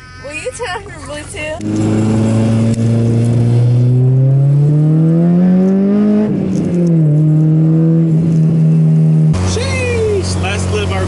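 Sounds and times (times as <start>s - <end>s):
car engine accelerating: 1.4s - 11.0s.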